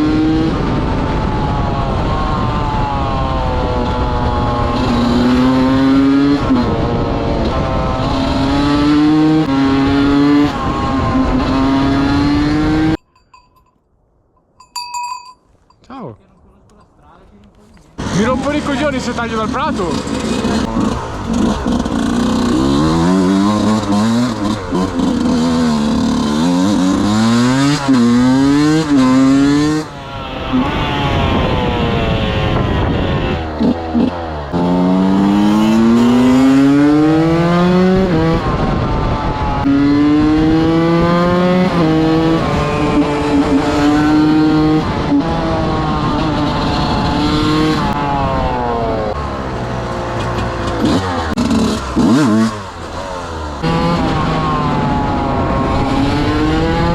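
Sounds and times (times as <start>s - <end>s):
motorcycle engine revving: 0.0s - 13.0s, 18.0s - 56.9s.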